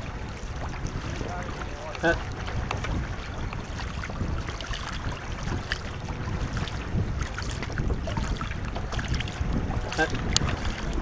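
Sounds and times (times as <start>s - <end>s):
water lapping around canoe: 0.0s - 11.0s
wind rumbling on microphone: 0.0s - 11.0s
small splashes and knocks: 0.6s - 11.0s.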